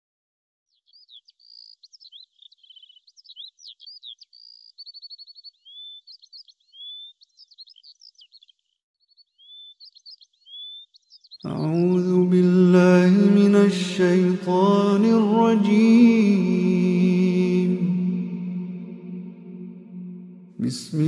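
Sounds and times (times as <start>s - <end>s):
songbirds chirping and trilling: 0.7s - 21.0s.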